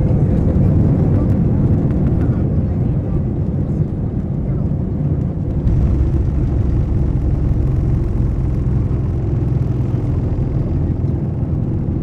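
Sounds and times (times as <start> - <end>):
airliner cabin rumble on takeoff: 0.0 - 12.0.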